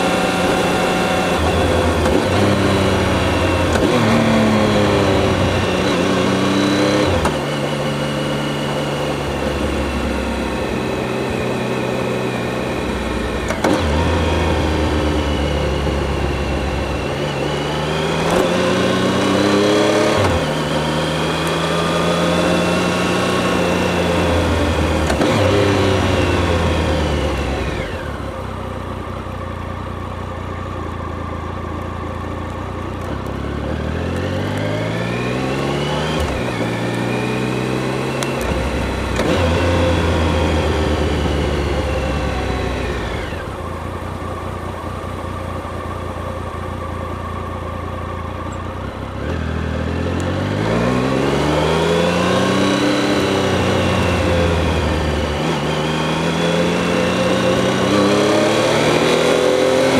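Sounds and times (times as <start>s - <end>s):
motorcycle engine shifting gears: 0.0s - 59.9s.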